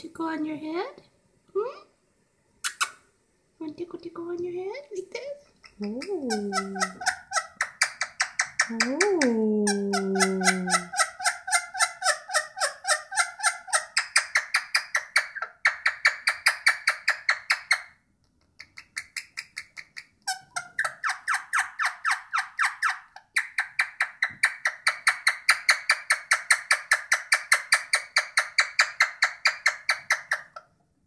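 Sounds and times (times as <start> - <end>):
parakeet clucking: 2.6 - 3.0, 5.4 - 17.9, 18.6 - 30.7.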